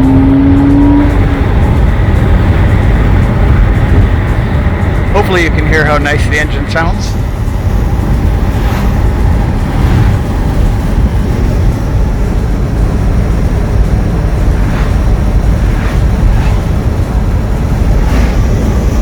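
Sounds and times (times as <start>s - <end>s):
car engine running: 0.0s - 19.0s
road noise: 0.0s - 19.0s
wind noise: 0.0s - 19.0s.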